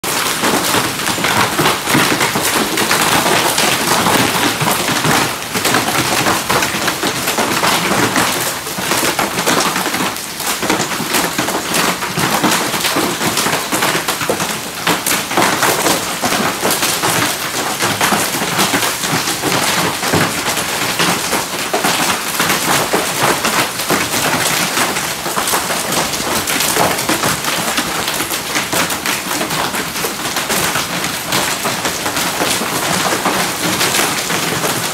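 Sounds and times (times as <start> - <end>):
heavy rain and hail on stone paving: 0.0 - 34.9.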